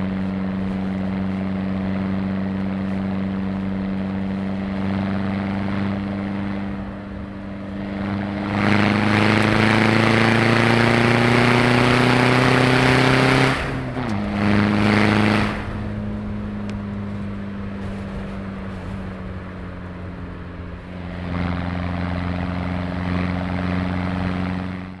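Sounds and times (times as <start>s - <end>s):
diesel engine idling and revving: 0.0s - 25.0s.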